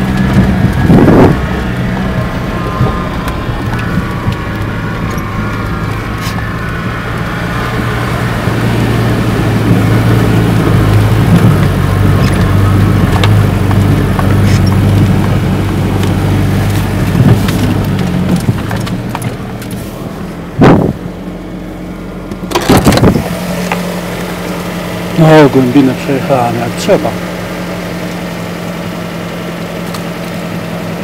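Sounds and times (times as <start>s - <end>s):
vehicle engine under load: 0.0s - 31.0s.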